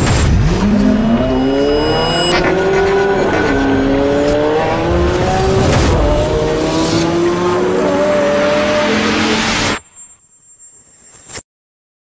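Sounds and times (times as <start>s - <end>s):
car engine accelerating hard: 0.1s - 9.8s.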